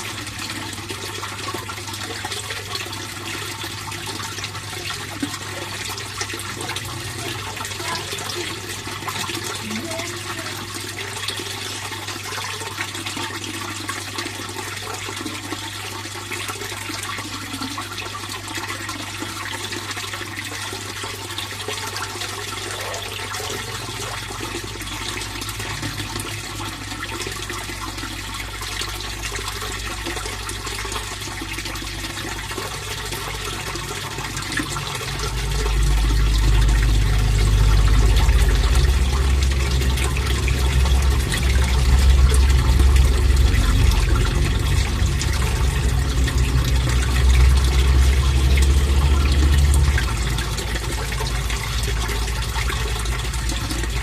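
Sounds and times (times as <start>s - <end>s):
low steady hum: 0.0s - 20.3s, 21.3s - 54.0s
running water splashing: 0.0s - 54.0s.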